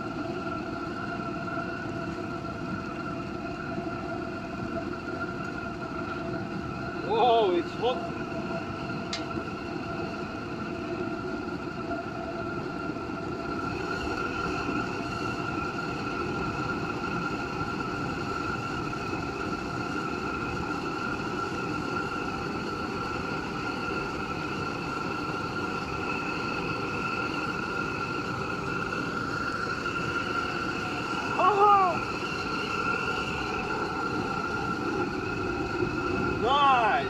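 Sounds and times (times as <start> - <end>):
high steady whistle: 0.0 - 37.0
propane burner hissing: 0.0 - 37.0.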